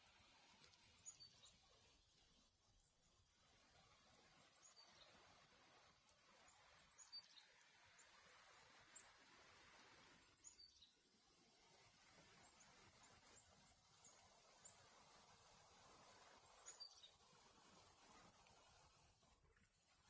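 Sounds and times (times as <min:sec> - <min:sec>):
quiet steady hiss: 0:00.0 - 0:20.0.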